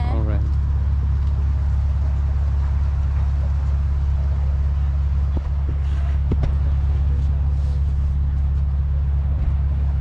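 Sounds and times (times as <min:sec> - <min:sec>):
engine running with low rumble: 0:00.0 - 0:10.0.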